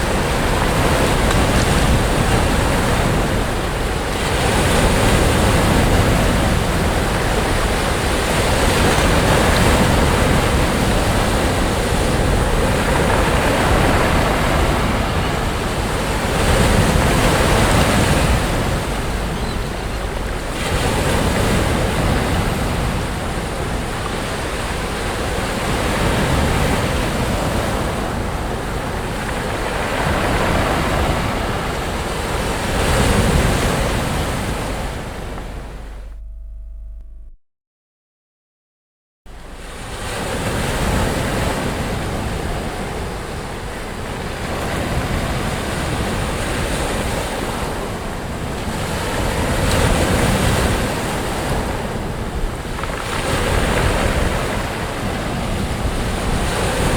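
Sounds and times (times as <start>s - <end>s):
sea waves breaking: 0.0s - 36.3s, 39.3s - 56.9s
wind rumble on microphone: 0.0s - 37.4s, 39.3s - 56.9s.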